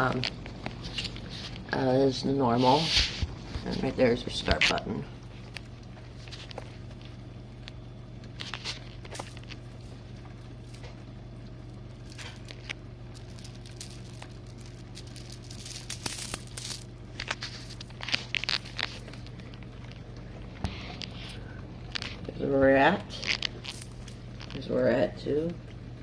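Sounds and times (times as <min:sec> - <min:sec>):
crackles and clicks: 0:00.0 - 0:01.8, 0:04.4 - 0:22.3, 0:23.0 - 0:24.8
dishwasher humming: 0:00.0 - 0:26.0.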